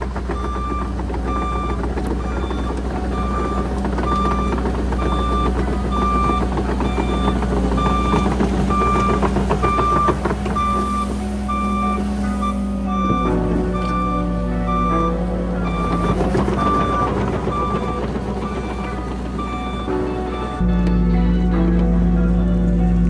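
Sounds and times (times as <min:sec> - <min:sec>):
backup alarm beeping: 0:00.0 - 0:22.5
continuous clatter: 0:00.0 - 0:23.0
diesel engine running: 0:00.0 - 0:23.0.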